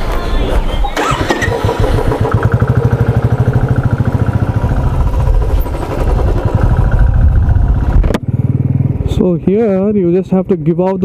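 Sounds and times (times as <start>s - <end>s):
motorcycle engine at low revs: 1.0s - 10.0s.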